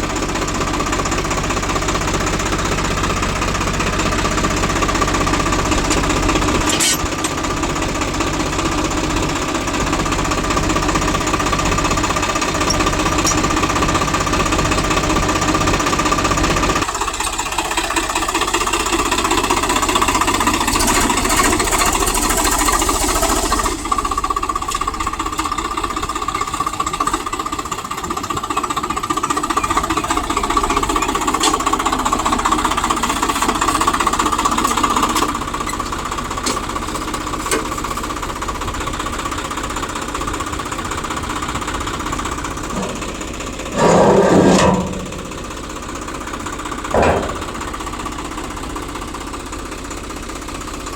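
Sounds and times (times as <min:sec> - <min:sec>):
diesel machinery knocking clatter: 0:00.0 - 0:50.9.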